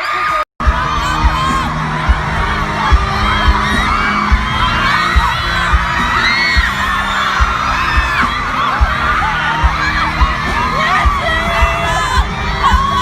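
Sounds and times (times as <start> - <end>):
crowd screaming: 0.0 - 13.0
music with heavy low beat: 0.6 - 13.0.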